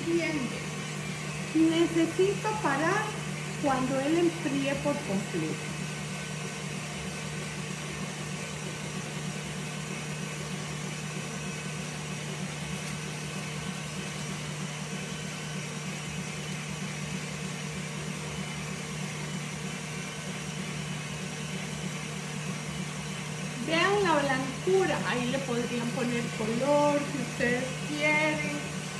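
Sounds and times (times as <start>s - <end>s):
stand mixer motor running: 0.0s - 28.9s.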